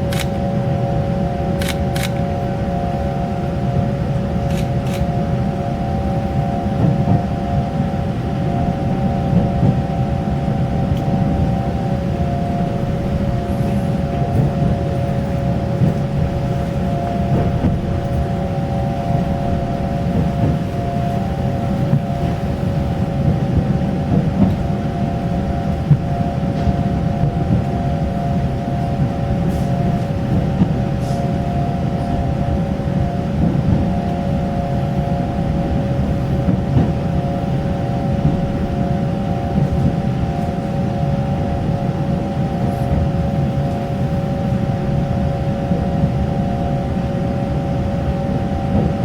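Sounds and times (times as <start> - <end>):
electric train motor hum: 0.0 - 49.0
train wheels rumbling on track: 0.0 - 49.0.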